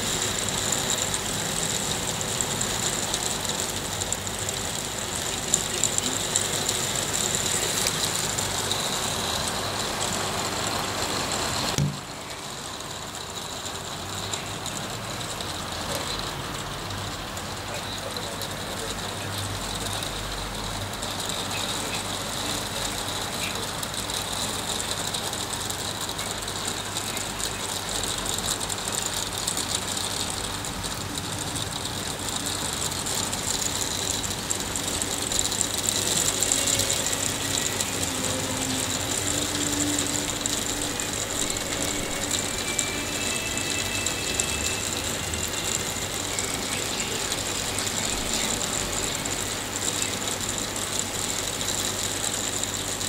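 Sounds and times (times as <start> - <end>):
hailstones rattling: 0.0 - 53.0.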